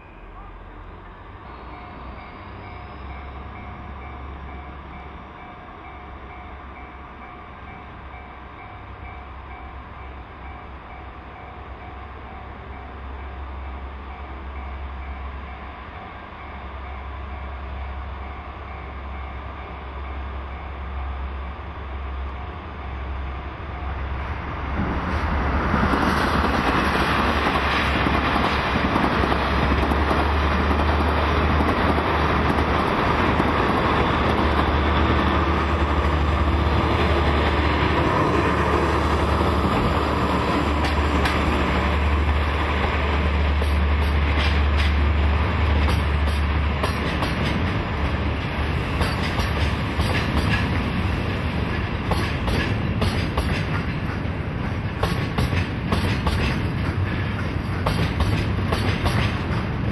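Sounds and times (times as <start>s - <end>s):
diesel locomotive rumble: 0.0s - 59.9s.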